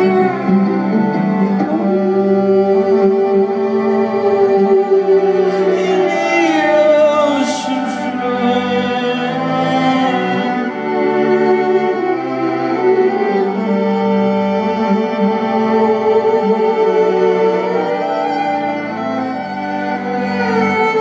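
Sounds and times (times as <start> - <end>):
violin drone: 0.0 - 21.0.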